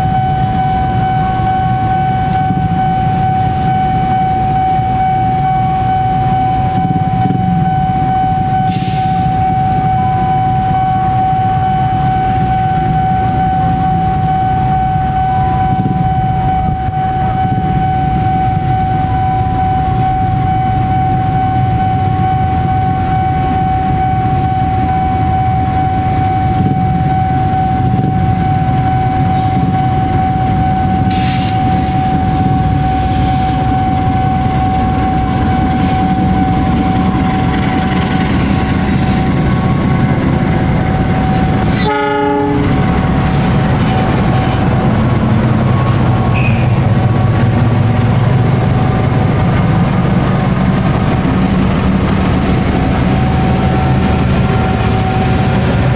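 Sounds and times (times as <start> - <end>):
locomotive engine rumble: 0.0 - 55.9
steady high whine: 0.0 - 55.9.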